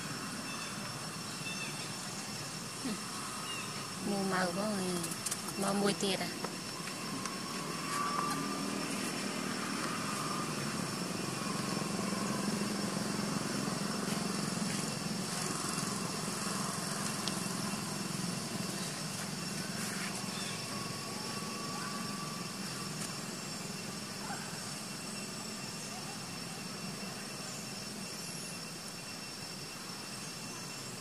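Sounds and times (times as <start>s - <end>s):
faint high steady tones: 0.0s - 31.0s
small engine droning: 2.7s - 28.4s.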